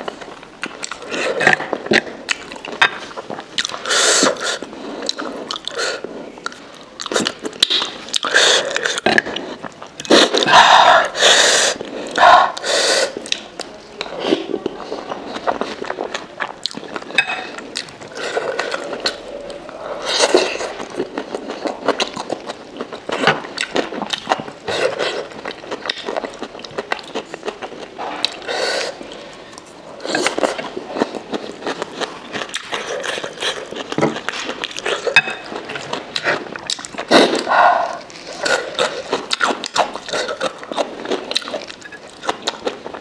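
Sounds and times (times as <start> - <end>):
wet chewing and slurping: 0.1 - 43.0.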